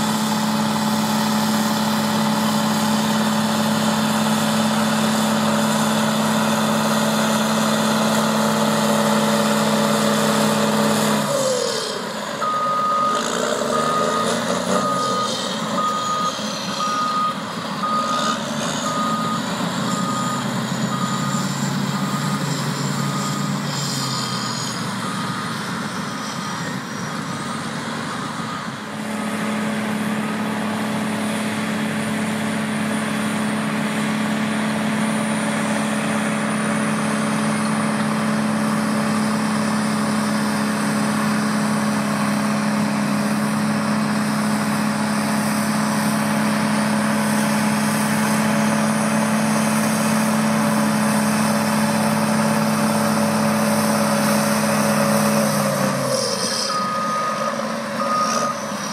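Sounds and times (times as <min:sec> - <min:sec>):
bulldozer diesel engine running: 0:00.0 - 0:58.9.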